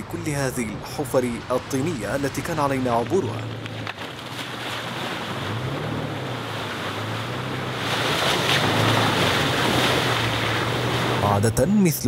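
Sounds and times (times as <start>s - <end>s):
tyres splashing through mud: 0.0s - 11.7s
engine droning: 0.0s - 12.0s.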